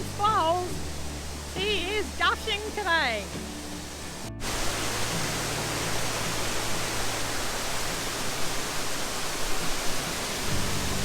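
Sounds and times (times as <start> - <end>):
waterfall gushing: 0.0 - 11.0.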